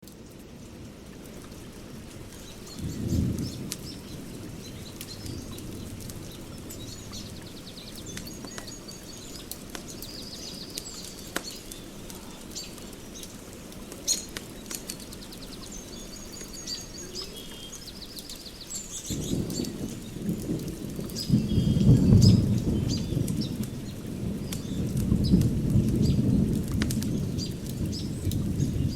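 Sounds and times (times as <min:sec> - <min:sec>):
fire crackling and popping: 0:00.0 - 0:28.9
small birds trilling: 0:01.5 - 0:28.9.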